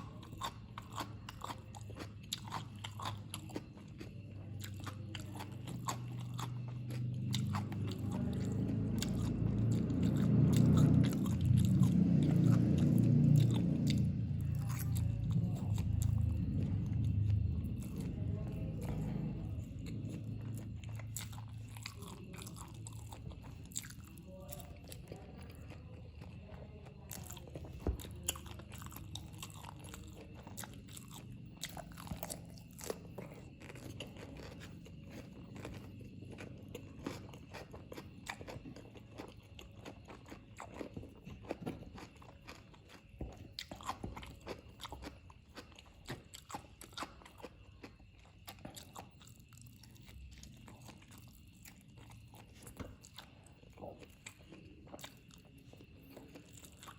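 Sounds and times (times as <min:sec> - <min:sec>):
person chewing noodles: 0:00.0 - 0:56.9.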